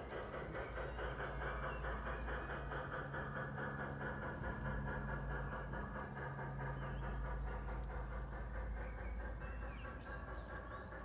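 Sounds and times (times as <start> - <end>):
birds chirping: 0.0 - 11.0
model train motor humming: 0.0 - 11.0
wheels rattling on rails: 0.0 - 11.0.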